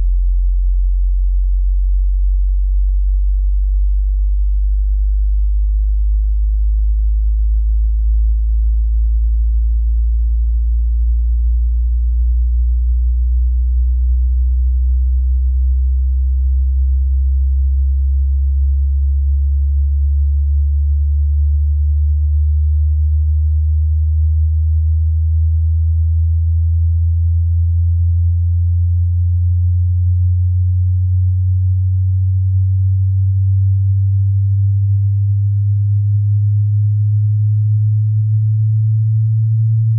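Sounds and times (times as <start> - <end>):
rising sine test tone: 0.0 - 39.9.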